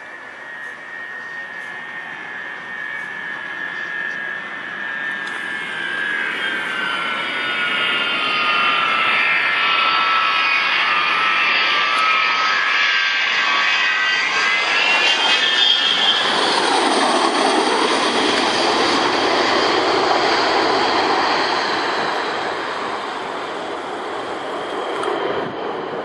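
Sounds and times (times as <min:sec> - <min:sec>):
jet engines whining: 0:00.0 - 0:26.0
jet roar: 0:00.0 - 0:26.0.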